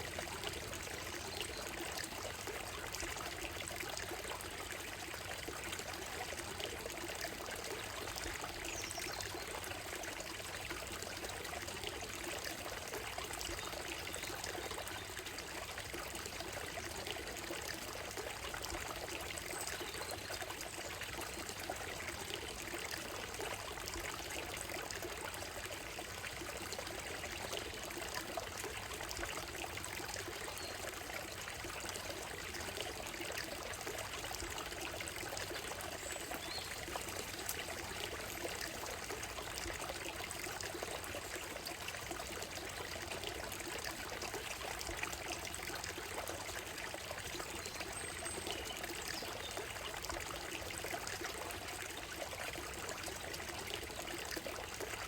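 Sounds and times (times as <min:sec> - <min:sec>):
stream trickling over gravel: 0:00.0 - 0:55.0.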